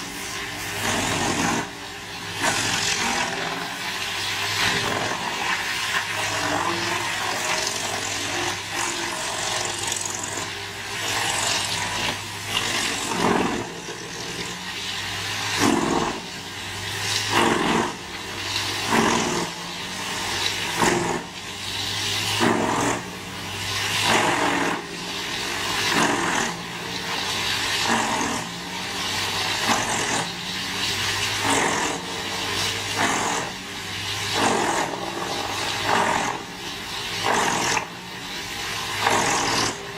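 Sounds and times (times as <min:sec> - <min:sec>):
wood chipper engine drone: 0:00.0 - 0:39.9
wood chipper surges: 0:00.0 - 0:39.9.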